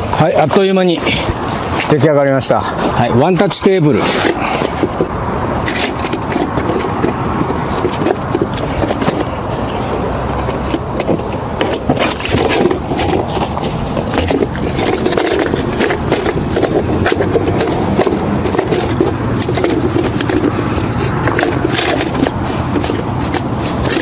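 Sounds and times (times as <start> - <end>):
steady background noise: 0.0 - 24.0
folding table clicks and rattles: 4.0 - 24.0.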